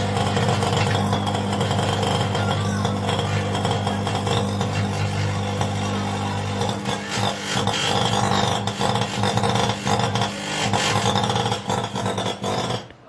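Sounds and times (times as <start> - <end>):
crackling electrical buzz: 0.0 - 13.0
loud electrical hum: 0.0 - 13.0.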